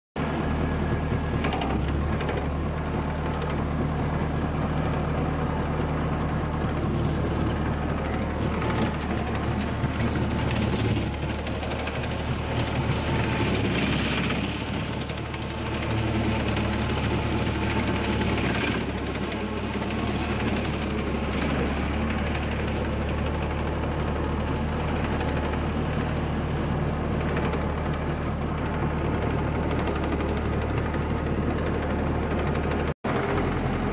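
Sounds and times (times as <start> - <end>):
rotary mower: 0.2 - 33.9
tractor diesel engine running: 0.2 - 33.9.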